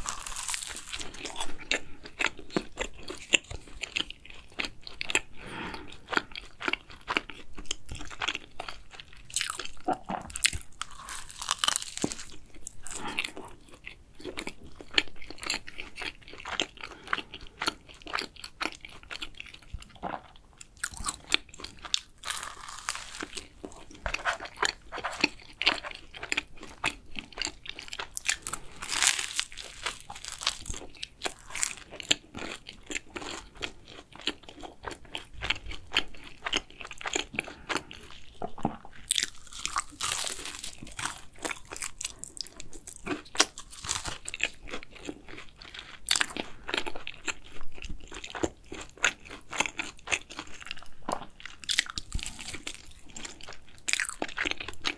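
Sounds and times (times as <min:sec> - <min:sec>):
chewing crunchy pastry: 0:00.0 - 0:54.9.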